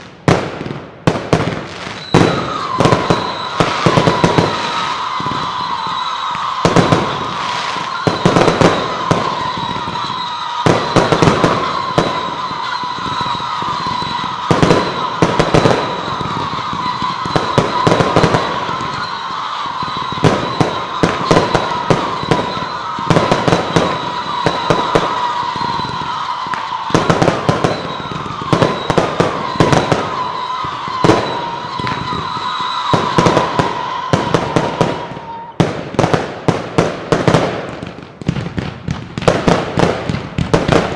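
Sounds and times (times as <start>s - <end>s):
fireworks shells bursting: 0.0s - 36.2s.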